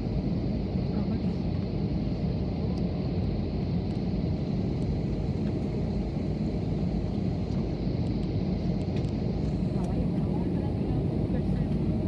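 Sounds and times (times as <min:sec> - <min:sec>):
airliner engine rumble in cabin: 0:00.0 - 0:12.0.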